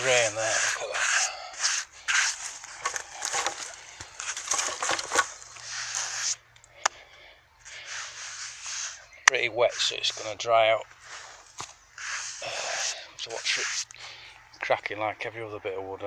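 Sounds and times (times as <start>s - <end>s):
rustling in sawdust: 0.0s - 6.5s, 7.2s - 14.4s.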